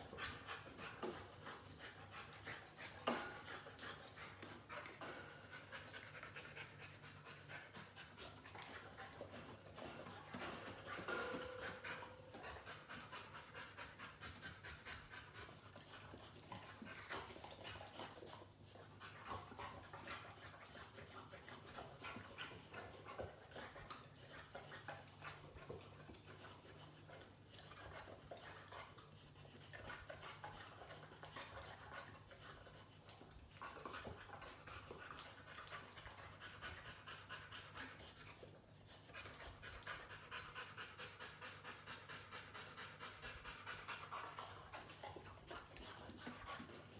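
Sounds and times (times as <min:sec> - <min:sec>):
dog panting: 0:00.0 - 0:46.9.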